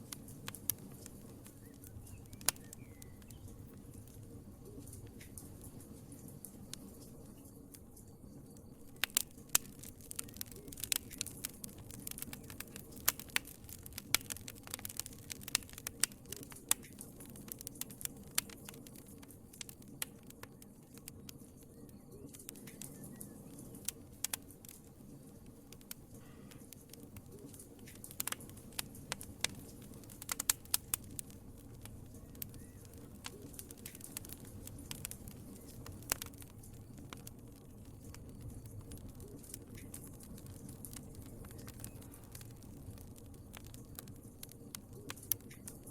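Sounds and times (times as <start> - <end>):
burning logs rumble: 0.0 - 45.9
fire popping and snapping: 0.0 - 45.9.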